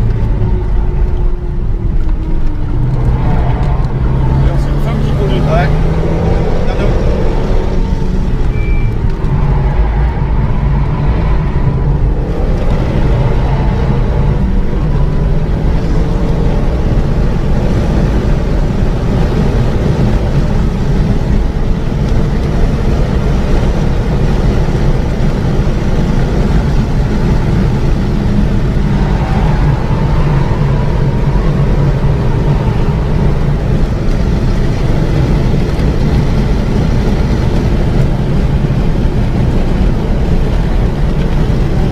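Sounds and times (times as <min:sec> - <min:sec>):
car engine driven hard: 0:00.0 - 0:41.9
road noise: 0:00.0 - 0:41.9.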